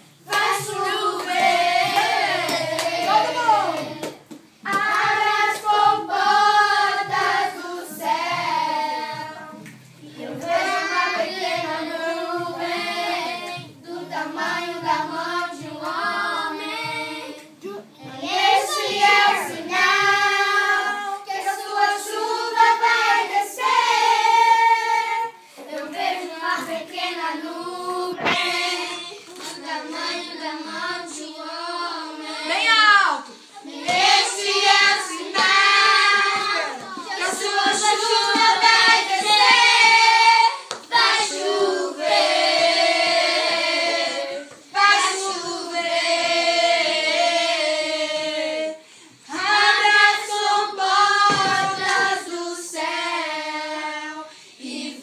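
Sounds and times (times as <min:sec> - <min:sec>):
children singing together: 0:00.0 - 0:55.0.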